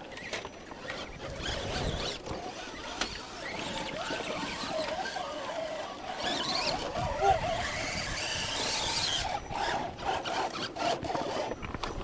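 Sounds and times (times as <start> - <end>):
electric motor and gear whine: 0.0 - 12.0.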